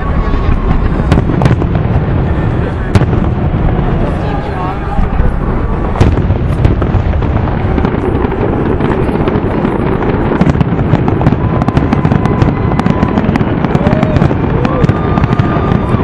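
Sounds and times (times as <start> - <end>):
fireworks booming: 0.0 - 16.0
fireworks crackling pops: 0.0 - 16.0.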